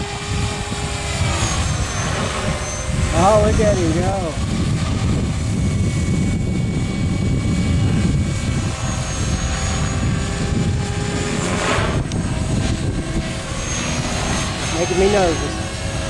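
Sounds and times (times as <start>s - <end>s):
helicopter rotor noise: 0.0s - 16.0s
high electric motor whine: 0.0s - 16.0s.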